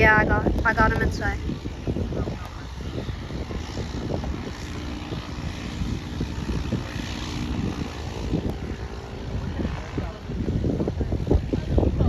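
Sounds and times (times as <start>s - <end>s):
propeller plane engine droning: 0.0s - 12.0s
wind buffeting microphone: 0.0s - 12.0s.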